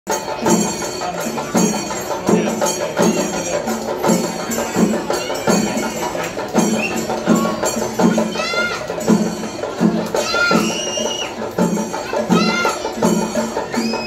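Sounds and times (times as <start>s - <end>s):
drum strokes: 0.1s - 14.0s
ringing cymbals: 0.1s - 14.0s.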